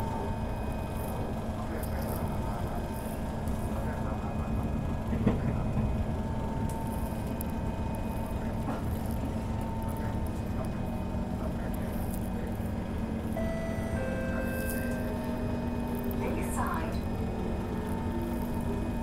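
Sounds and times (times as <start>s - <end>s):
faint train whine: 0.0s - 19.0s
train rumble: 0.0s - 19.0s.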